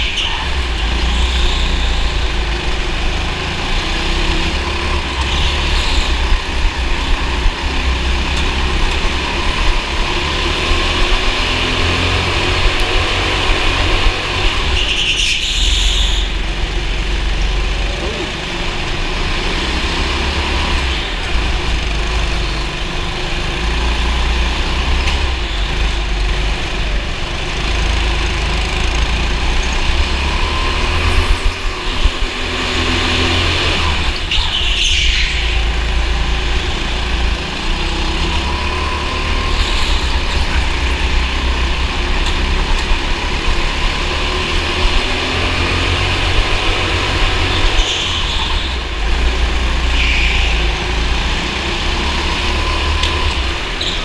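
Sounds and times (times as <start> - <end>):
go-kart engine rumbling: 0.0 - 54.0.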